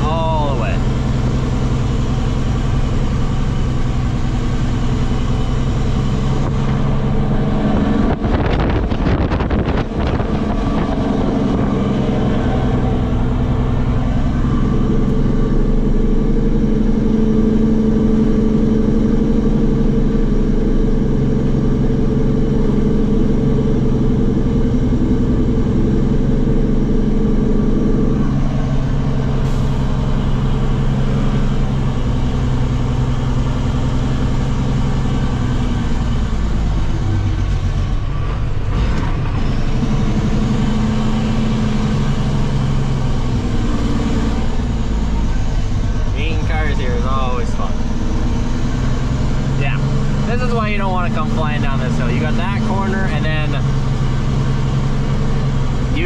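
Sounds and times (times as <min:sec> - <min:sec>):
diesel truck engine braking: 0:00.0 - 0:56.0.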